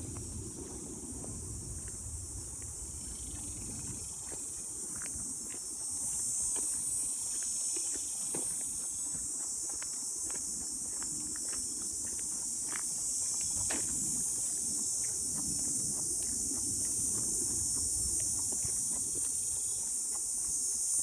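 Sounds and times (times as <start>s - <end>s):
footsteps on dirt trail: 0.0s - 21.0s
insect chorus buzzing: 0.0s - 21.0s.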